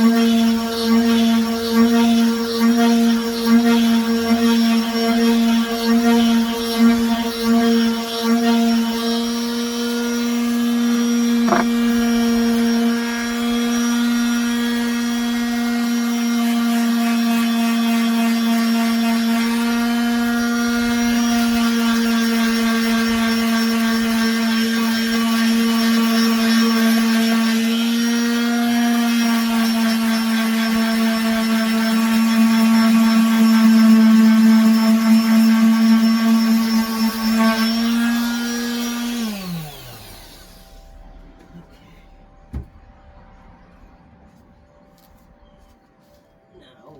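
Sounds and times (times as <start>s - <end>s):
electric sander motor humming: 0.0s - 41.2s.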